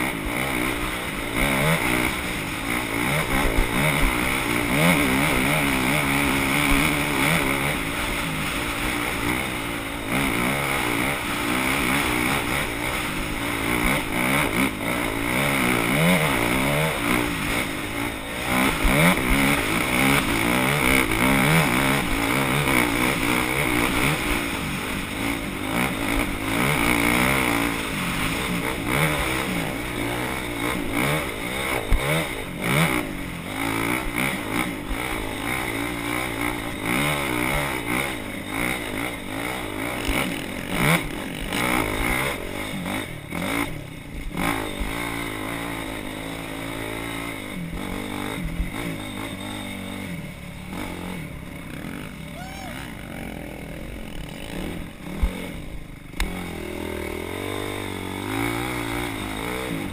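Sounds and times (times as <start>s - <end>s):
off-road racing engines revving: 0.0s - 59.9s.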